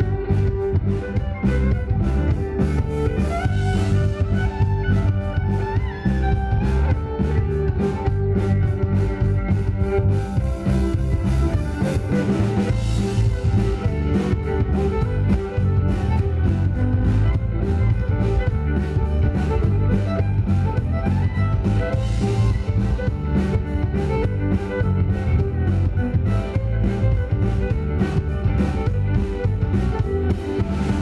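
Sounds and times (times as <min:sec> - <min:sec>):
string band playing: 0:00.0 - 0:31.0.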